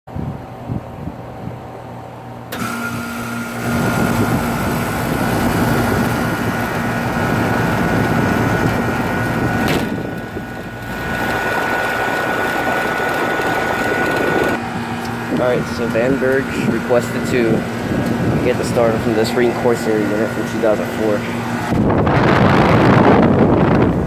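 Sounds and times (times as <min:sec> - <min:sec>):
air conditioner compressor hum: 0:00.1 - 0:24.0.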